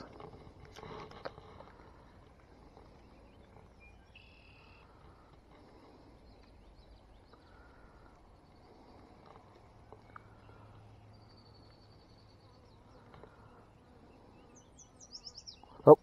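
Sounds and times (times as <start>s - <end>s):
distant bird calls: 0.0s - 16.0s.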